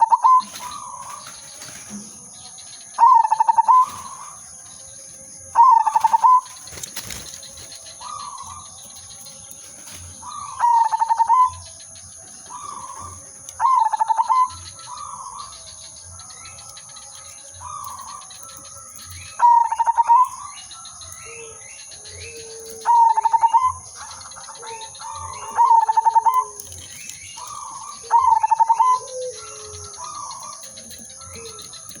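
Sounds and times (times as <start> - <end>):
dove cooing: 0.0 - 2.2, 2.9 - 4.4, 5.5 - 11.8, 12.4 - 20.6, 21.2 - 32.0.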